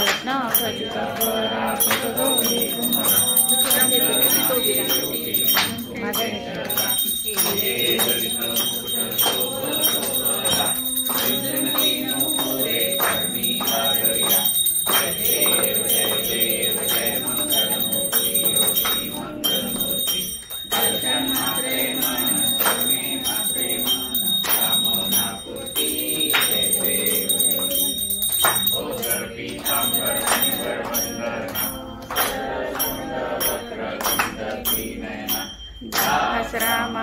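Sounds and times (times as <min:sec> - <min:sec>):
small brass hand bell ringing: 0:00.0 - 0:37.0.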